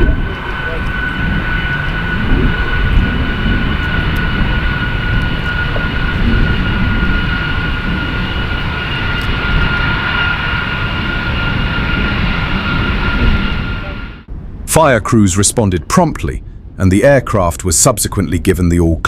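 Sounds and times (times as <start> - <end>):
jet engines whining: 0.0 - 18.6.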